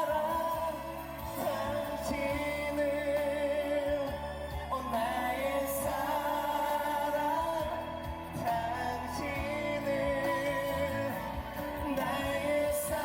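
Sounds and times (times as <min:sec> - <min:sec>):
pop ballad singing: 0:00.0 - 0:13.0.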